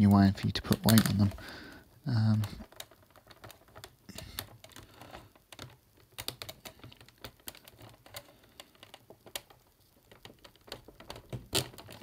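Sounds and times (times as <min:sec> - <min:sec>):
plastic toy parts clicking: 0:00.5 - 0:01.5, 0:02.3 - 0:12.0.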